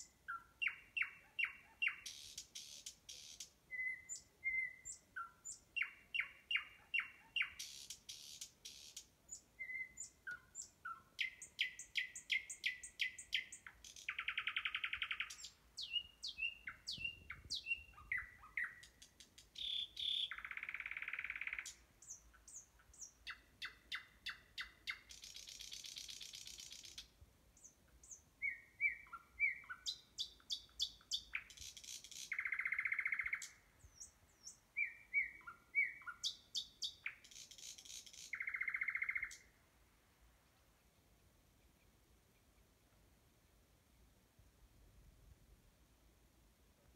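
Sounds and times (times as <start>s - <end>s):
nightingale singing: 0.0s - 39.8s.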